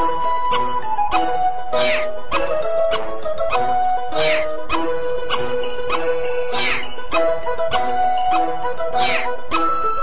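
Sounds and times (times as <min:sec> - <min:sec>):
looping electronic tune: 0:01.2 - 0:09.8.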